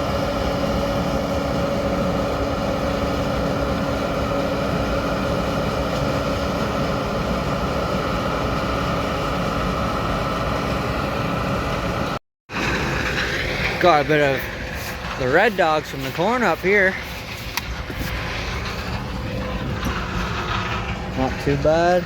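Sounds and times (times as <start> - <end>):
constant engine whine: 0.0 - 22.0
tractor diesel engine droning: 0.0 - 22.0.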